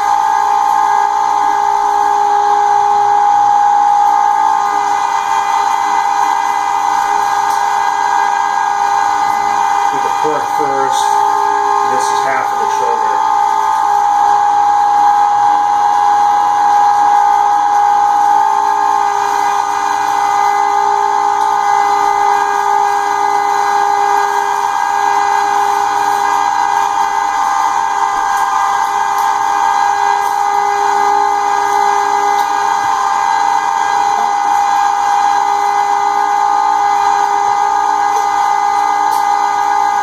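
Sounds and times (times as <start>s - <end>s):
electric meat grinder whining: 0.0s - 40.0s.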